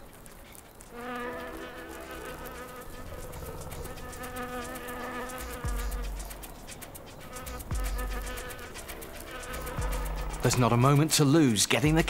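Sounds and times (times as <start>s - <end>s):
wasp buzzing: 0.0s - 12.0s.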